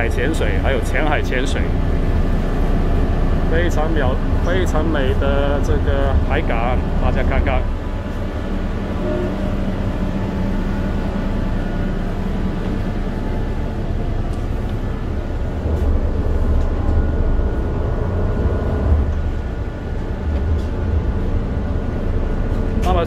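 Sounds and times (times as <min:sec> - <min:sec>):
ferry engine deep rumble: 0:00.0 - 0:23.0.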